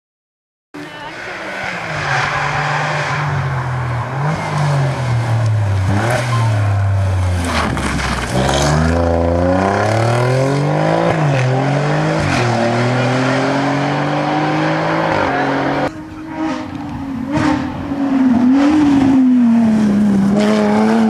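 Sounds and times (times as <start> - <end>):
car engine accelerating: 0.8 - 21.0.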